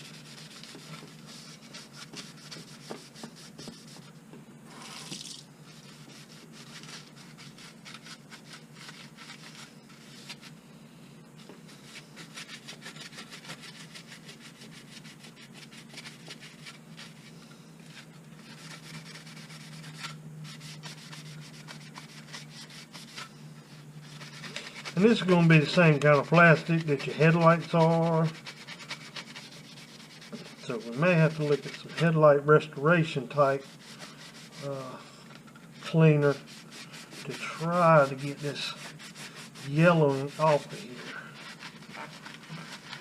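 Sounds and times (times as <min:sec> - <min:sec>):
scrubbing pad rubbing plastic: 0:00.0 - 0:04.1, 0:05.7 - 0:10.5, 0:11.7 - 0:23.3, 0:24.0 - 0:32.2, 0:33.6 - 0:34.9, 0:35.8 - 0:43.0.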